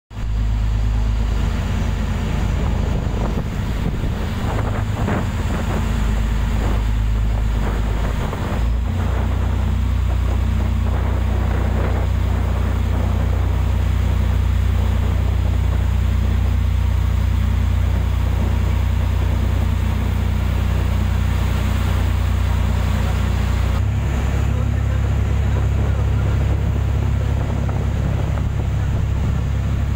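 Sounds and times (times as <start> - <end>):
boat engine running: 0.1 - 29.9
water noise: 0.1 - 29.9
wind: 0.1 - 29.9.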